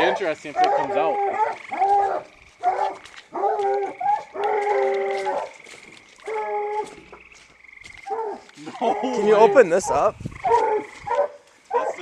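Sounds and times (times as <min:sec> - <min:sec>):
dogs baying: 0:00.0 - 0:12.0.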